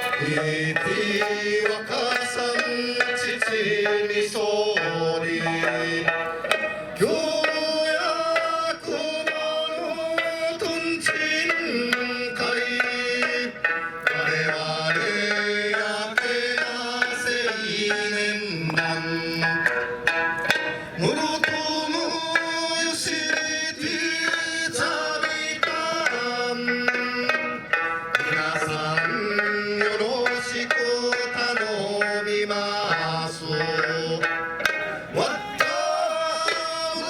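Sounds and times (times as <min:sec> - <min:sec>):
plucked lute accompaniment: 0:00.0 - 0:23.4, 0:24.2 - 0:35.8
person singing folk melody: 0:00.0 - 0:37.0.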